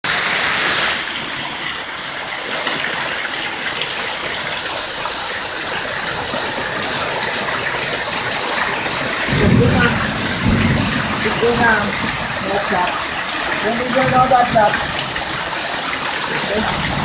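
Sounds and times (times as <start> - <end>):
flood water rushing: 0.0 - 17.0.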